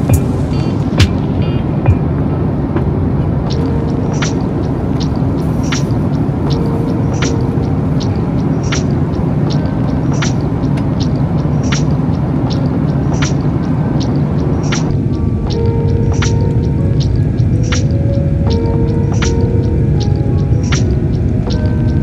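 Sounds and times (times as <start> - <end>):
soft music beat: 0.0 - 22.0
vehicle rumble: 0.0 - 22.0.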